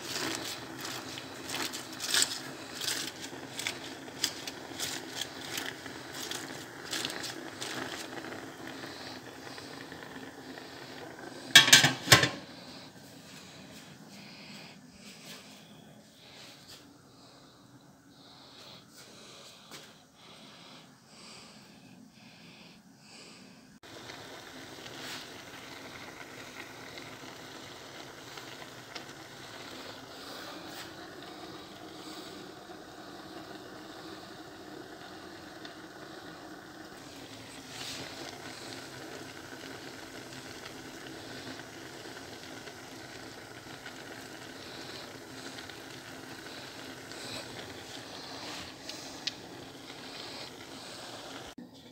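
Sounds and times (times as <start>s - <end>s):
pot of cabbage hissing: 0.0s - 51.9s.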